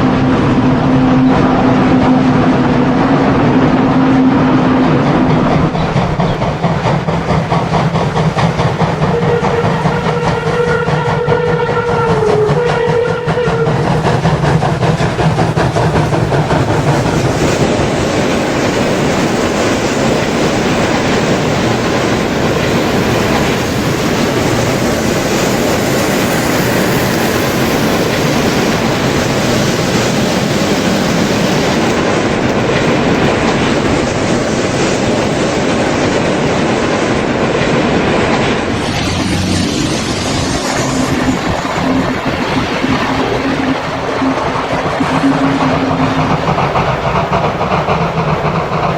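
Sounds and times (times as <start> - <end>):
model train wheels clattering: 4.7 - 39.0, 40.7 - 48.9.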